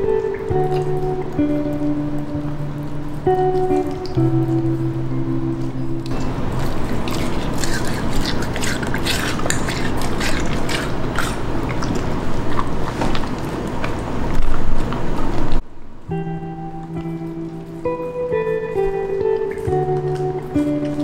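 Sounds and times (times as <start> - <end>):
guitar music: 0.0 - 13.8, 16.0 - 21.0
dog chewing watermelon: 0.0 - 15.6, 17.0 - 21.0.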